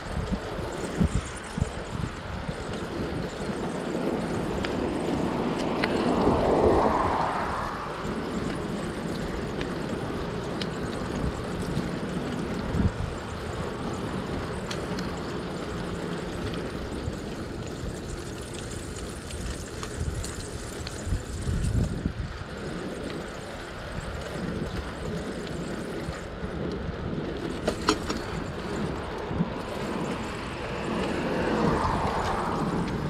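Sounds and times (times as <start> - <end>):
tyres rolling on asphalt: 0.0 - 33.0
wind rumbling on microphone: 0.0 - 33.0.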